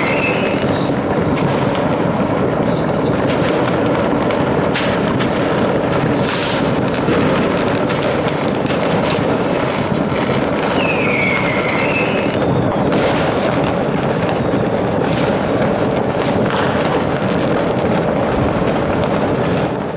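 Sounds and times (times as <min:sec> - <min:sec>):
fireworks crackling and banging: 0:00.0 - 0:19.9.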